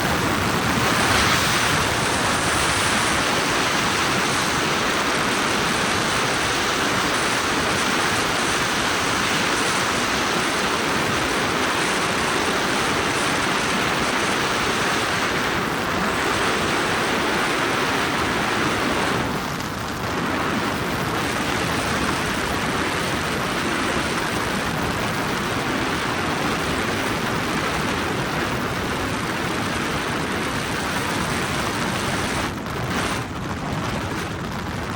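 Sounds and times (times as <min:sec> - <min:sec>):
helicopter engine and rotor rush: 0:00.0 - 0:34.9.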